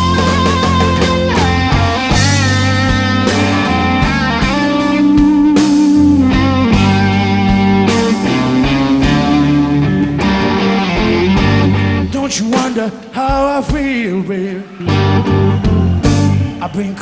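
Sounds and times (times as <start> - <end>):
electric guitar lead: 0.0 - 13.1, 14.7 - 16.6
bass guitar: 0.0 - 17.0
drums: 0.0 - 17.0.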